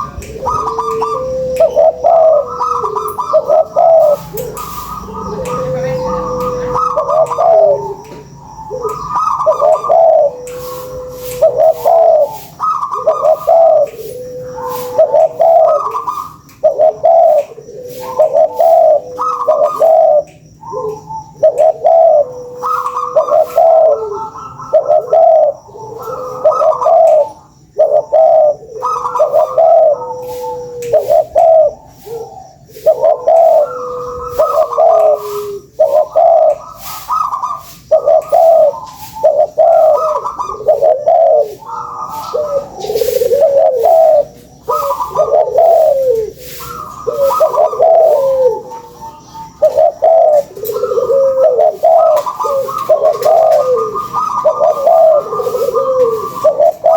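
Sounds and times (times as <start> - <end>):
dove cooing loudly: 0.0 - 56.9.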